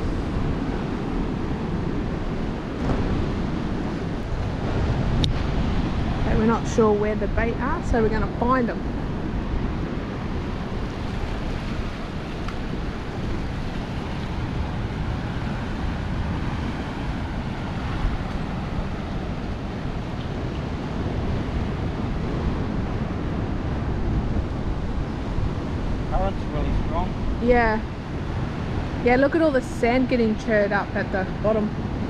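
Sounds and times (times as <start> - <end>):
ocean surf breaking: 0.0 - 32.0
wind on microphone: 0.0 - 32.0.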